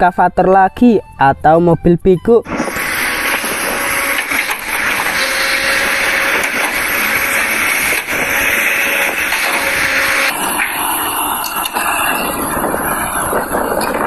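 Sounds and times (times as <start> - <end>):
excavator diesel engine running: 2.5 - 14.0.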